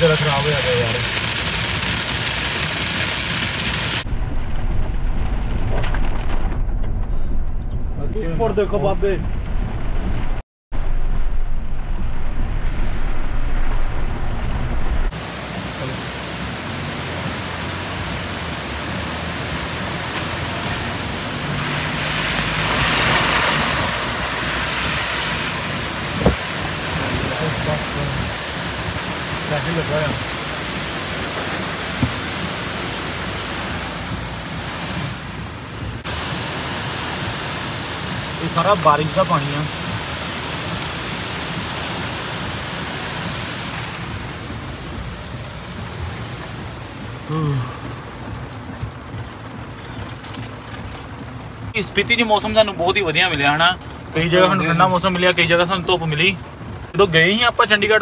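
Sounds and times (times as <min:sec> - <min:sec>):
runoff water rushing: 0:00.0 - 0:06.4, 0:08.2 - 0:58.0
heavy rain: 0:00.0 - 0:06.8, 0:08.2 - 0:58.0
engine and road rumble: 0:00.0 - 0:58.0.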